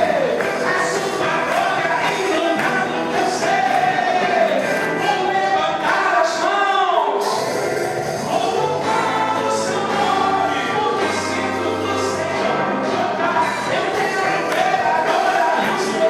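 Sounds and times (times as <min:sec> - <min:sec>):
full band playing: 0:00.0 - 0:16.0
gospel choir singing: 0:00.0 - 0:16.0.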